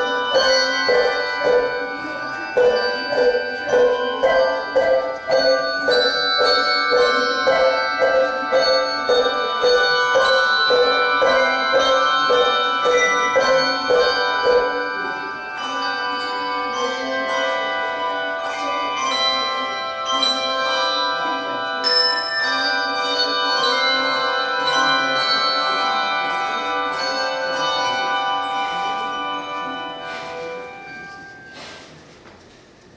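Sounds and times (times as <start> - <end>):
handbell choir ringing chords: 0.0 - 32.0.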